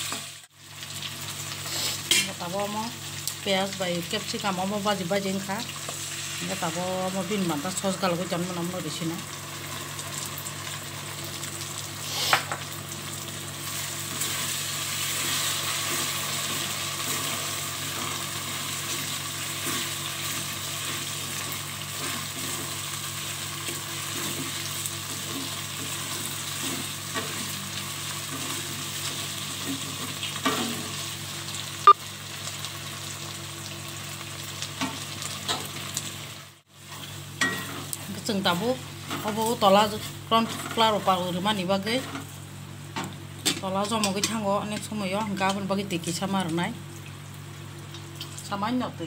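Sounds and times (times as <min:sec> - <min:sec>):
vegetables sizzling in a wok: 0:00.0 - 0:49.0.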